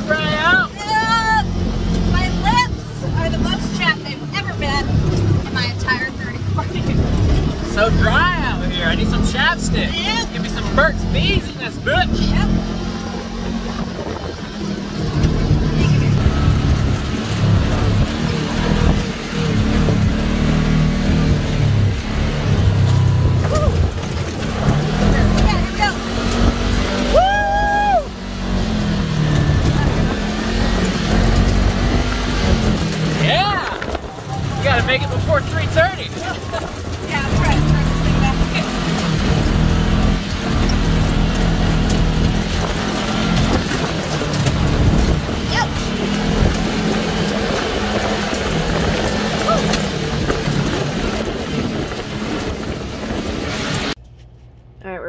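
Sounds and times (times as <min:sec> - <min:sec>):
atv engine running: 0:00.0 - 0:55.0
wind and trail noise: 0:00.0 - 0:55.0.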